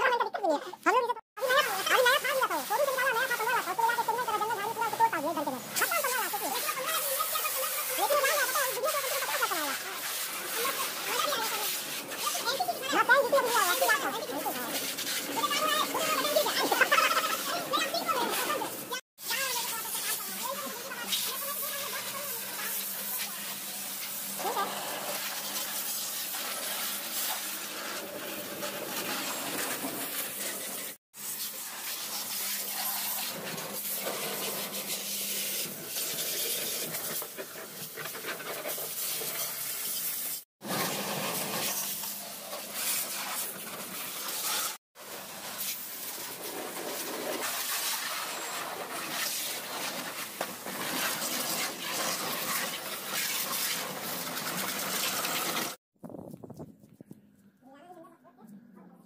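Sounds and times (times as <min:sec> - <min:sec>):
pressure washer spray hissing: 0:01.4 - 0:55.8.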